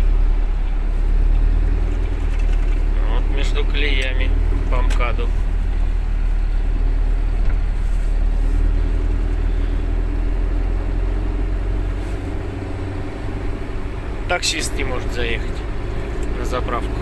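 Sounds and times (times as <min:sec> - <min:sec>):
road noise: 0:00.0 - 0:17.0
truck engine droning: 0:00.0 - 0:17.0.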